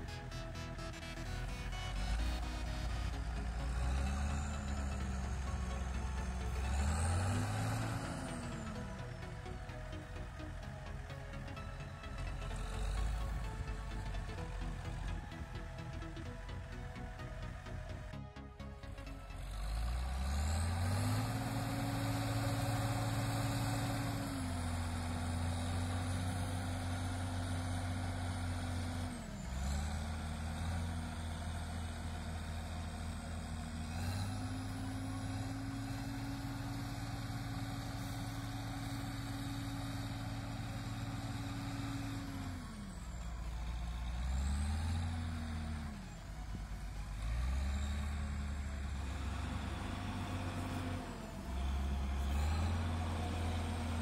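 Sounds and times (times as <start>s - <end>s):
diesel tractor engine working hard: 0.0s - 54.0s.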